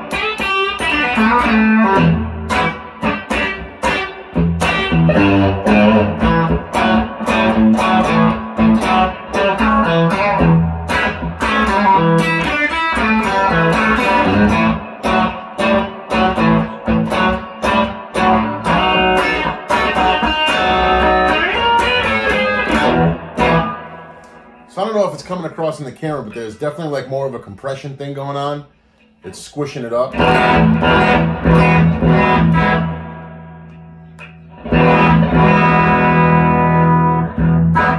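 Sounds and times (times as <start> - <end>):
electric guitar picking: 0.0 - 24.7, 30.1 - 37.9.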